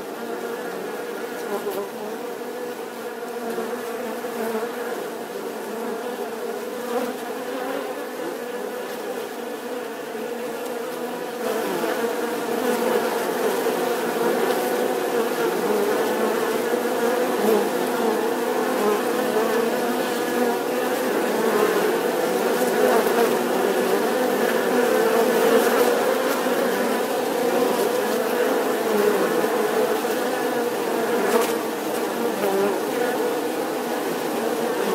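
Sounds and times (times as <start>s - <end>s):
honeybees buzzing: 0.0s - 34.9s.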